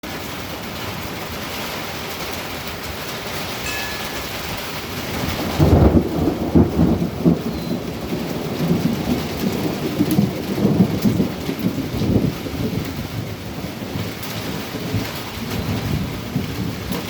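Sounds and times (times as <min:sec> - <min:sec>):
rain hissing: 0:00.0 - 0:17.0
thunder rumbling: 0:00.1 - 0:17.0.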